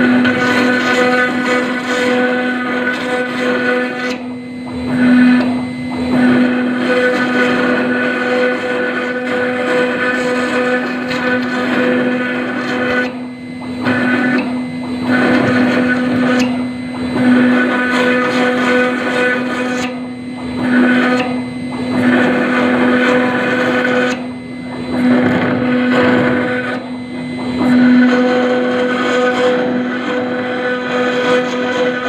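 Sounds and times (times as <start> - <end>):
router bit grinding stone: 0.0 - 32.0.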